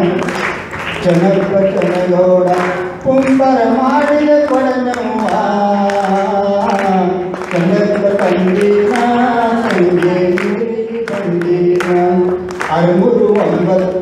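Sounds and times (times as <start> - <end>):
person singing a devotional chant: 0.0 - 14.0.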